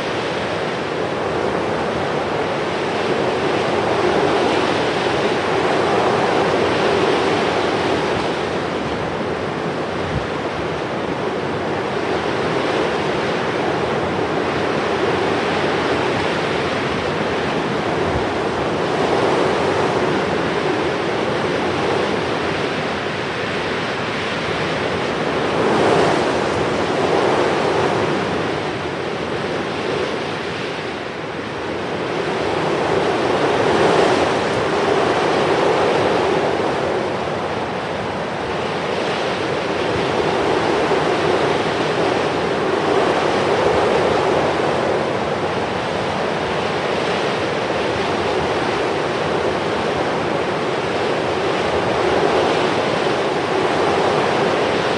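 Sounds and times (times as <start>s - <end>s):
sea surf rushing: 0.0s - 54.9s.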